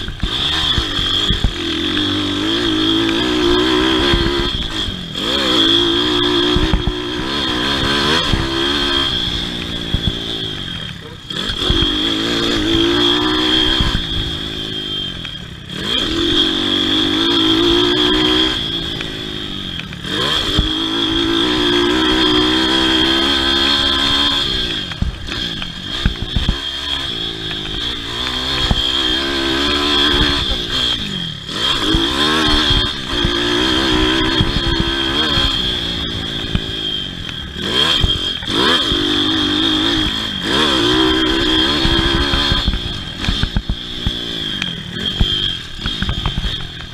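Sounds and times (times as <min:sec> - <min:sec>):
pit bike engine revving: 0:00.0 - 0:46.9.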